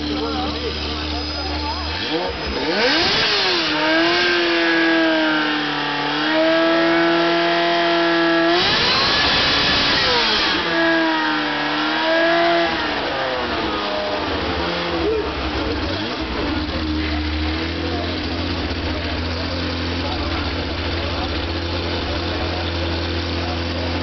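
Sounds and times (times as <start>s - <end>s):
sports car engine revving: 0.0s - 24.0s.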